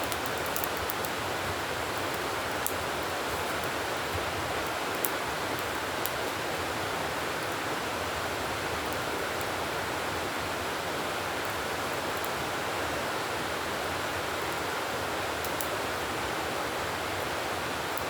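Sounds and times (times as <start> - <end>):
campfire crackling: 0.0 - 12.7, 13.5 - 18.0.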